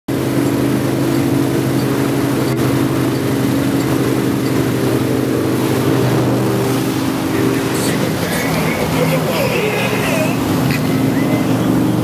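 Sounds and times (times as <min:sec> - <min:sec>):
boat engine droning: 0:00.1 - 0:12.0
water rushing: 0:00.1 - 0:12.0
wind: 0:00.1 - 0:12.0.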